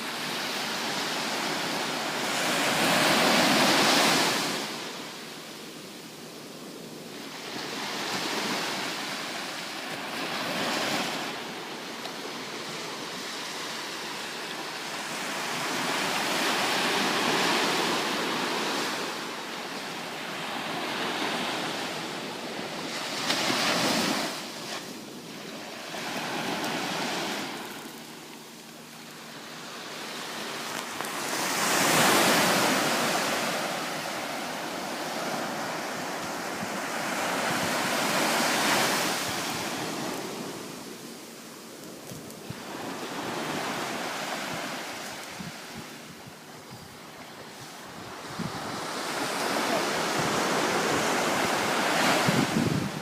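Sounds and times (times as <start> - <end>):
waves washing onto shore: 0.0 - 53.0.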